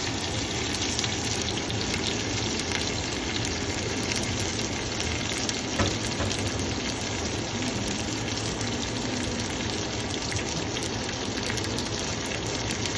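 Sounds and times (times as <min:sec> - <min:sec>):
steak sizzling: 0:00.0 - 0:12.9.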